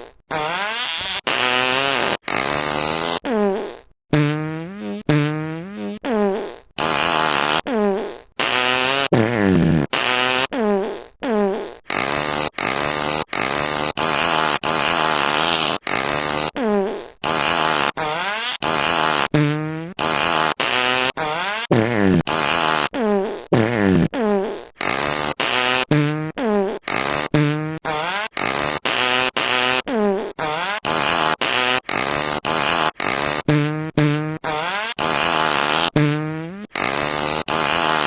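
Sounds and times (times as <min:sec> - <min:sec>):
fart sound effects: 0:00.0 - 0:38.0.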